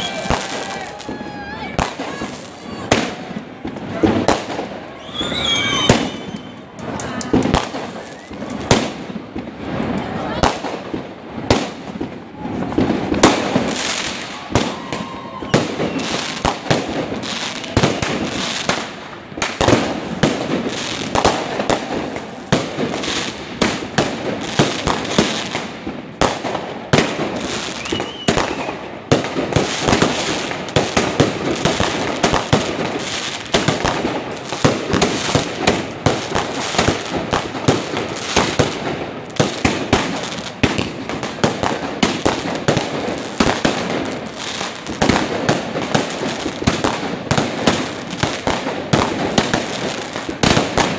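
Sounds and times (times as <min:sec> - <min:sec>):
firework cake firing rapid shots: 0:00.0 - 0:50.9.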